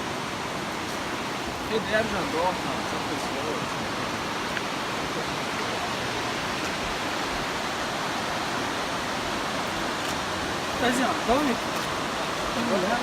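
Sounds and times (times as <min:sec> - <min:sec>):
rushing water roar: 0:00.0 - 0:13.0.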